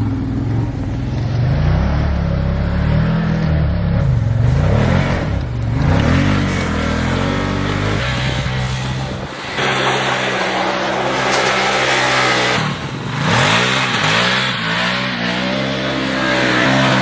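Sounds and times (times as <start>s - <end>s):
engine running and revving: 0.0s - 17.0s.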